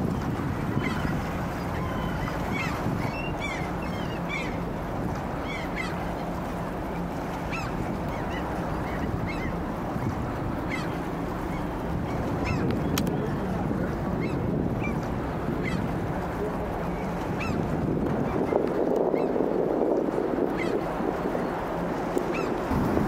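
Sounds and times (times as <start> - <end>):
water: 0.0 - 23.0
waterbirds calling: 0.0 - 23.0
wind: 0.0 - 23.0.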